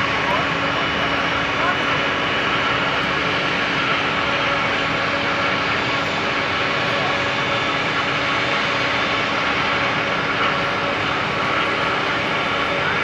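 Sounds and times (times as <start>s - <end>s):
jet engines idling: 0.0s - 13.0s.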